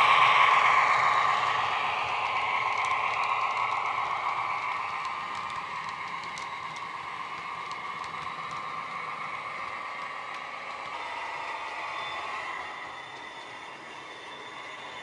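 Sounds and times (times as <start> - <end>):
wheels clicking on track: 0.0 - 15.0.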